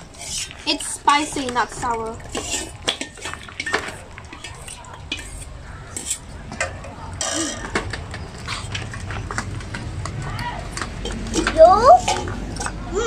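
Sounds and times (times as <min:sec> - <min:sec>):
metal spoons scraping tin cans: 0:00.0 - 0:08.9, 0:11.0 - 0:12.8.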